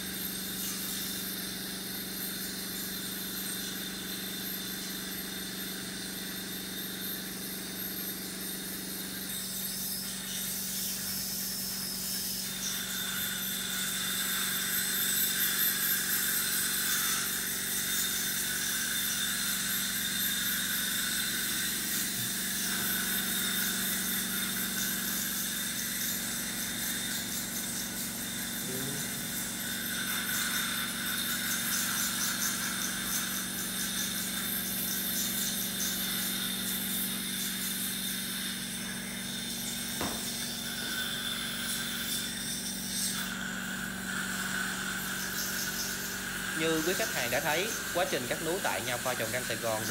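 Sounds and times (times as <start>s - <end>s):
dental suction hissing: 0.0s - 49.9s.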